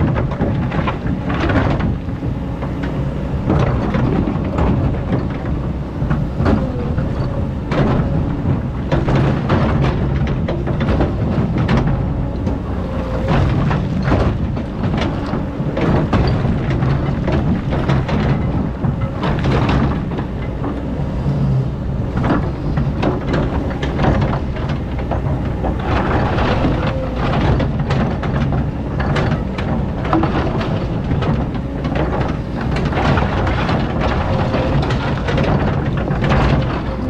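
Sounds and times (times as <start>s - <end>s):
excavator clanks and scrapes: 0.0s - 37.0s
excavator diesel engine running: 0.0s - 37.0s.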